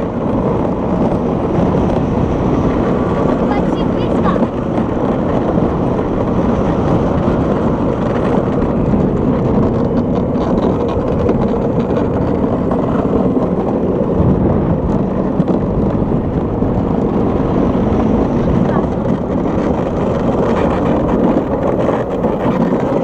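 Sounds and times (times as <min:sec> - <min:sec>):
cart wheels rumbling on asphalt: 0:00.0 - 0:23.0.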